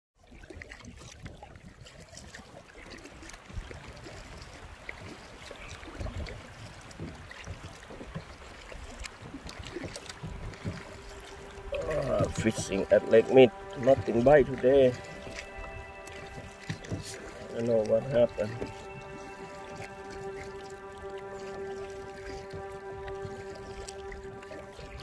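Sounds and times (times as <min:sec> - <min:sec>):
paddle splashing in water: 0:00.2 - 0:25.0
water trickling off paddle: 0:00.2 - 0:25.0
wind rumble on microphone: 0:03.4 - 0:25.0.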